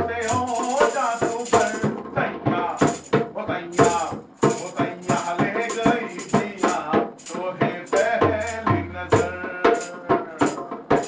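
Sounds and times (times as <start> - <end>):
shaker rattling: 0.0 - 2.0, 2.7 - 11.0
hand drum beating: 0.0 - 11.0
person singing: 0.0 - 11.0.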